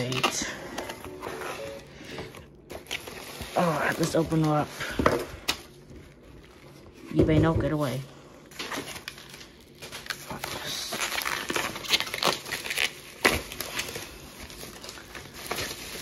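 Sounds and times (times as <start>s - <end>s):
paper and bubble wrap crinkling: 0.0s - 16.0s.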